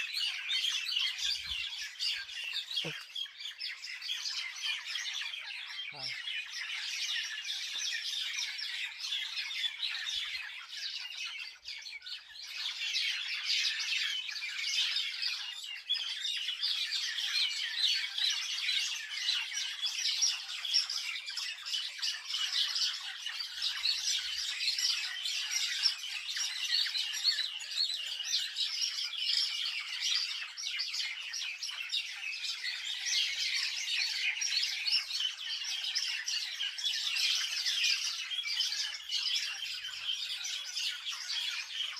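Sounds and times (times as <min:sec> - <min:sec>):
small birds chirping in chorus: 0:00.0 - 0:41.9.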